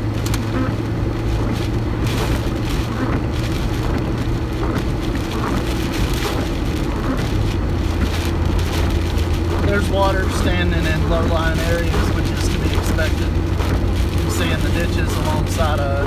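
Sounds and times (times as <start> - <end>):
car engine and road drone: 0.0 - 16.0
tyres hissing on wet road: 0.0 - 16.0.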